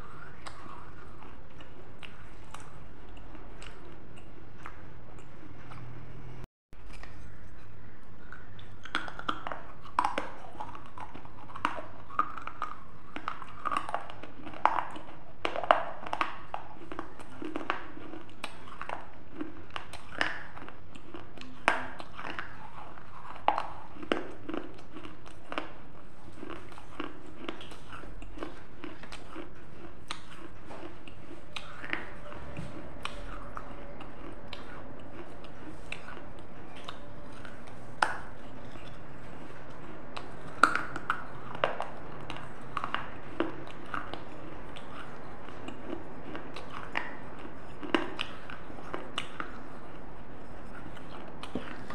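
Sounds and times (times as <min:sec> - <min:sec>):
chewing clay pot crunches: 0:00.0 - 0:51.9.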